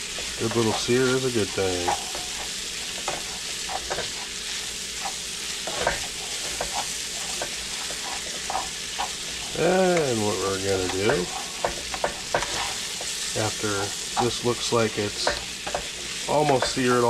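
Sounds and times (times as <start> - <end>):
chicken sizzling in butter: 0.0 - 17.0.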